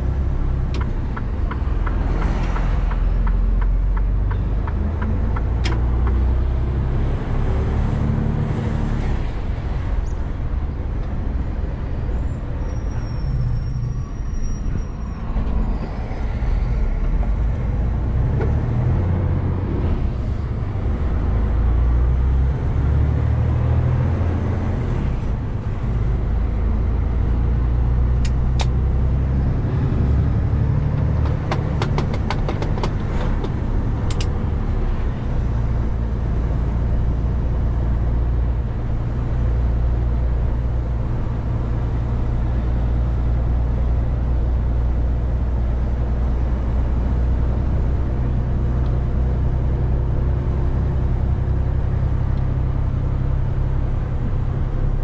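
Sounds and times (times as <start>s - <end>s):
truck diesel engine droning: 0.0s - 55.0s.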